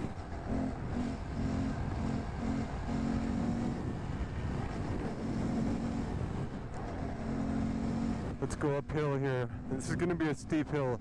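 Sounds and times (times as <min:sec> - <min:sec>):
motorcycle engine cruising: 0:00.0 - 0:11.0
wind rumble on microphone: 0:00.0 - 0:11.0.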